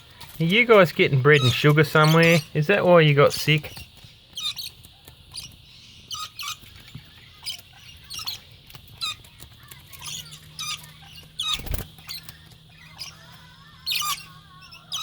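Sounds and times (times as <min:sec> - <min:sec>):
lorikeets screeching: 0:00.0 - 0:15.0.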